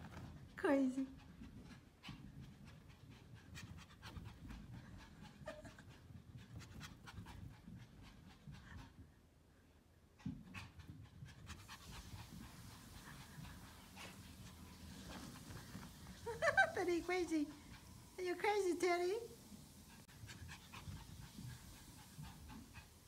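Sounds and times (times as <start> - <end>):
small dog panting: 0.0 - 9.4, 10.0 - 23.0.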